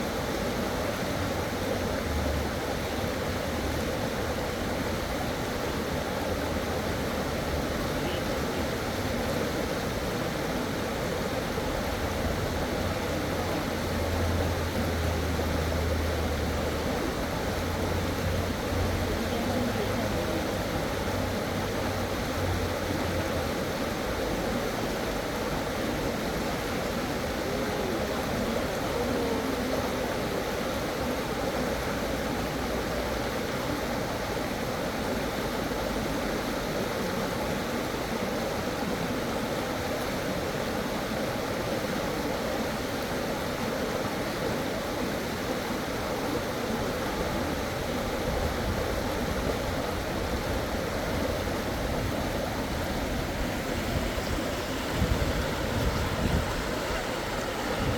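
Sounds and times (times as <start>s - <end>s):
water rushing over rocks: 0.0s - 57.9s.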